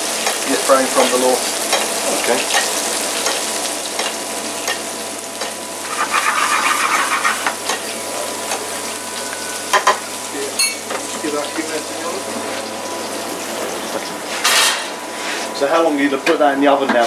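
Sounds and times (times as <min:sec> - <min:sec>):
fish frying in butter: 0:00.0 - 0:14.2.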